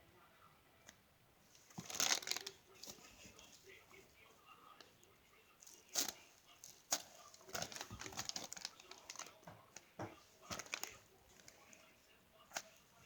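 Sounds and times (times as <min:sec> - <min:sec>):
plastic crinkling: 0:01.5 - 0:13.0.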